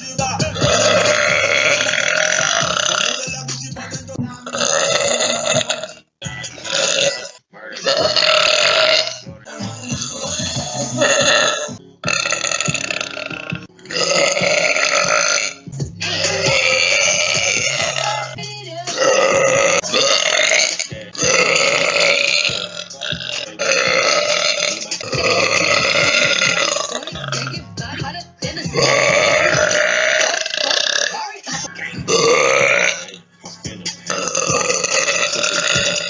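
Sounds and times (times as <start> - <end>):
woman belching: 0.5 - 3.4, 4.4 - 28.0, 28.6 - 33.2, 34.1 - 36.0.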